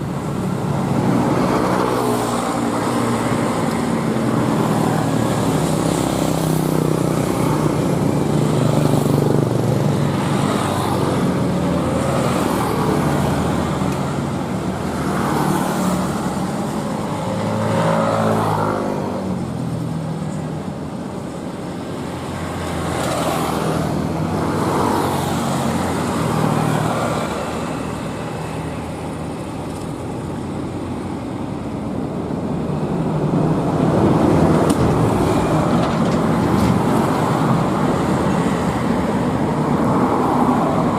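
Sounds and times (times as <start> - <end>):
heavy truck engines labouring: 0.0 - 40.9
road noise: 0.0 - 40.9.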